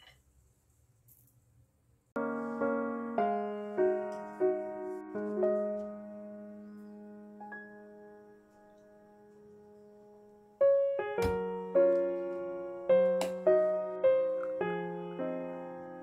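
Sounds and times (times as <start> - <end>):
soft piano music: 2.2 - 16.0.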